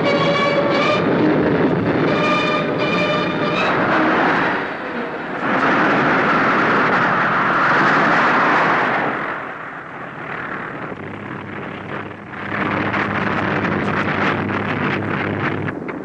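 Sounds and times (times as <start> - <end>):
piston aircraft engine drone: 0.0 - 16.0.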